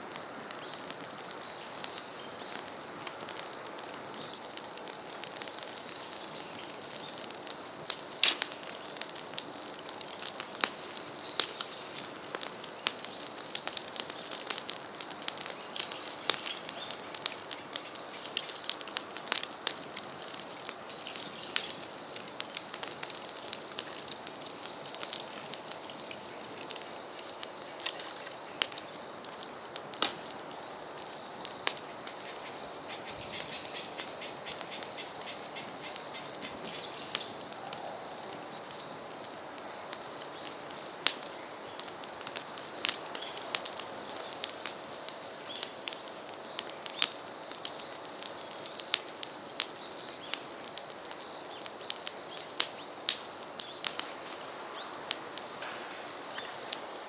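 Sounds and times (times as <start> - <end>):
bamboo fire crackling and popping: 0.0 - 57.0.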